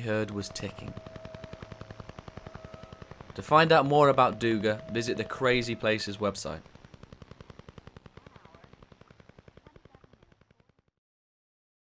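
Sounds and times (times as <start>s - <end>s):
rapid radio interference ticking: 0.0s - 10.6s.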